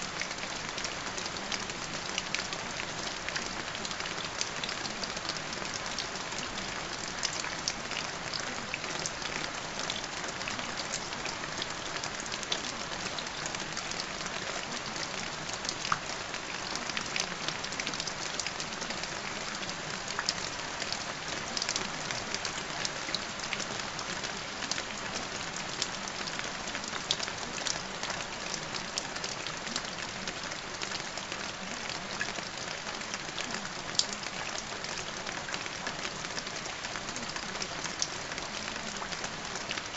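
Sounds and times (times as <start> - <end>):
rain on hard surface: 0.0 - 39.9.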